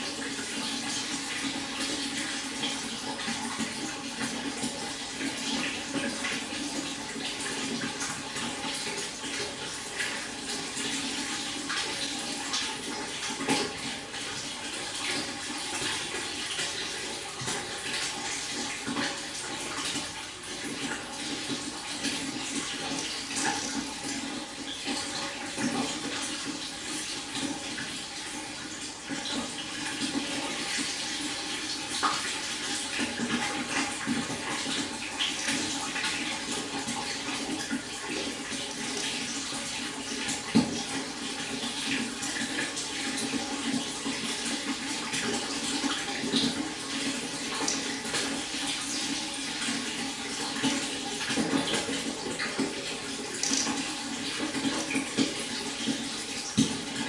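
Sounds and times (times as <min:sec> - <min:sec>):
water splashes and gurgles: 0:00.0 - 0:57.0.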